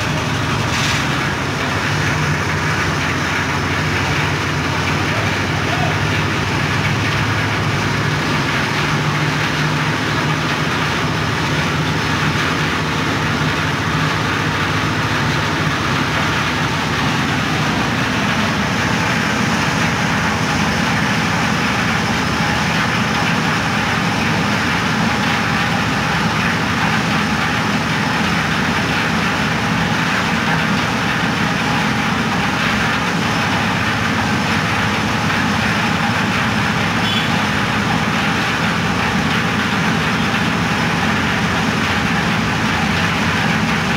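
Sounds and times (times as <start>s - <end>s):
concrete mixer engine running: 0.0s - 43.9s.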